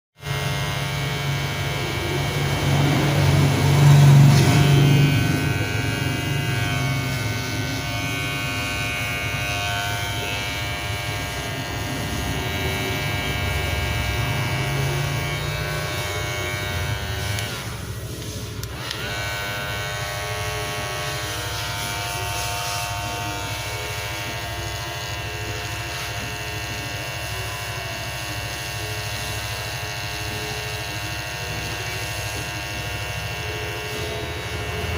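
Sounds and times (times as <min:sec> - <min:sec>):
electric hair clipper buzzing: 0:00.2 - 0:34.9.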